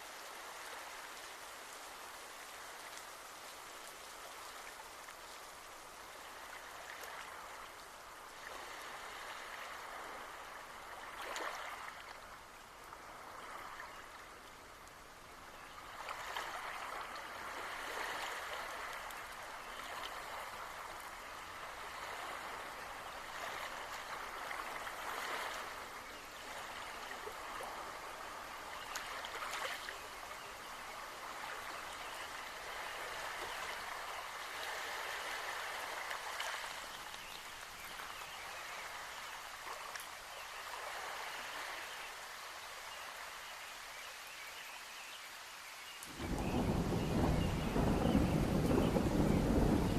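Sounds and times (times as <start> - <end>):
running water: 0.0 - 49.9
steady rain: 0.0 - 49.9.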